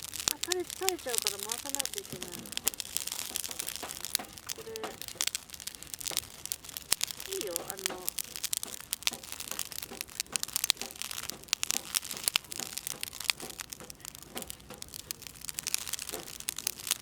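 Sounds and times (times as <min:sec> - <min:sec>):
oil spattering in flames: 0:00.0 - 0:17.0
wood fire crackling and popping: 0:00.0 - 0:17.0.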